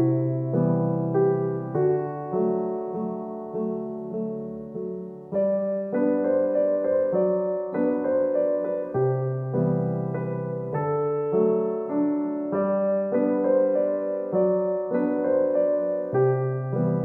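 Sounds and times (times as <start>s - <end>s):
gentle piano tune: 0.0s - 17.0s.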